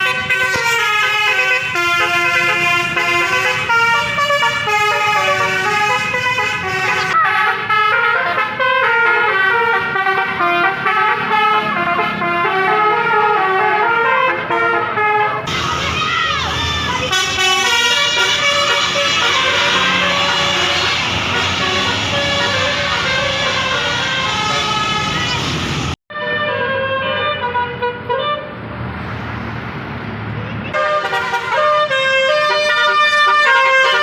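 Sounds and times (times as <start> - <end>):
multi-tone bus air horn melody: 0.0 - 28.6, 30.8 - 34.0
road traffic rumble: 0.0 - 34.0.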